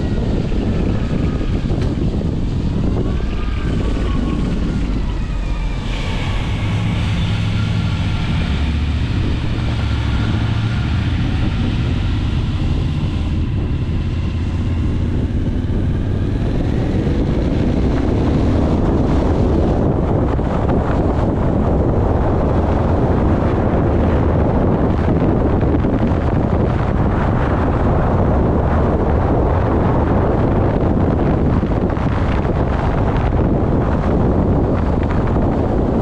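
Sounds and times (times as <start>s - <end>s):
engine running steadily: 0.0s - 36.0s
wind rushing over microphone: 0.0s - 36.0s.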